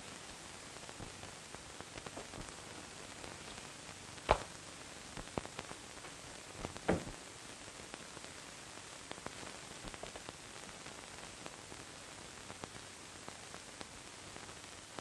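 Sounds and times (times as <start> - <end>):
old film soundtrack hiss and crackle: 0.0 - 15.0.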